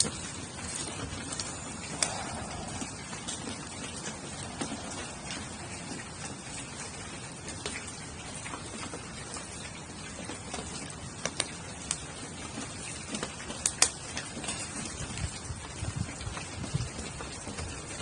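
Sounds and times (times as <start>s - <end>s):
campfire crackling and popping: 0.0s - 18.0s
rain hiss: 0.0s - 18.0s.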